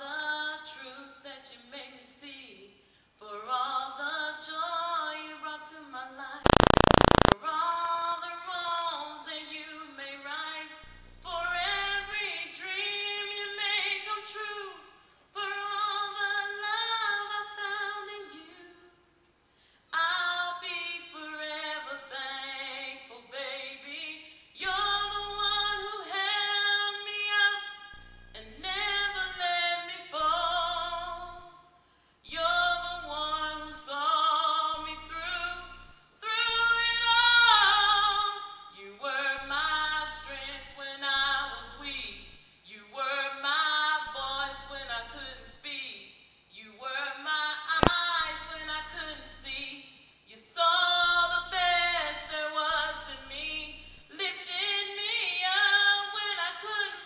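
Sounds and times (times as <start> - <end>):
woman singing unaccompanied: 0.0 - 14.8, 15.4 - 18.9, 20.0 - 27.8, 28.4 - 31.5, 32.3 - 57.0.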